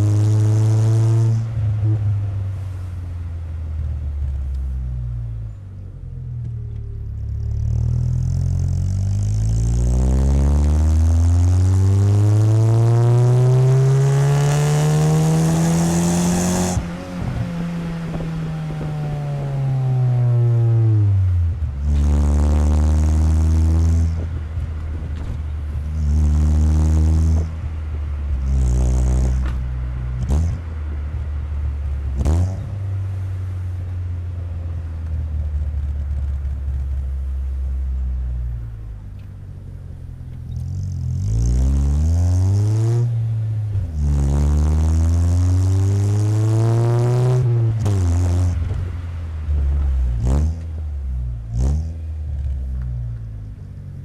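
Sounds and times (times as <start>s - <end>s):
car exhaust revving: 0.0s - 54.0s.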